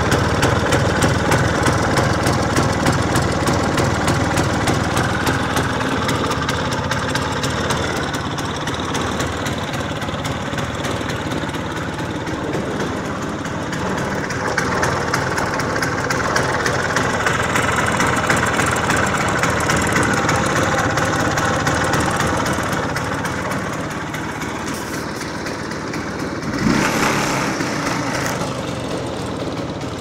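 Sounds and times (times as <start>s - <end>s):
scooter engine idling: 0.0s - 30.0s.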